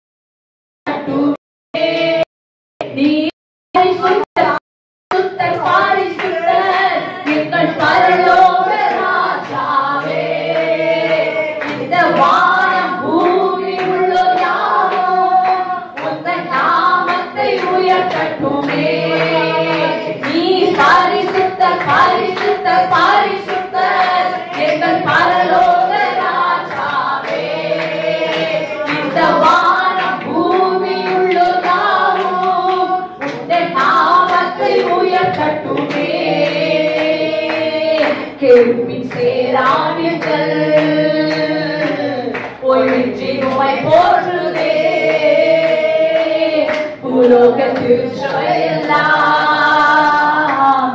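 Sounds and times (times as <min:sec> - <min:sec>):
women singing worship song: 0:00.9 - 0:50.9
hand claps: 0:05.1 - 0:50.9.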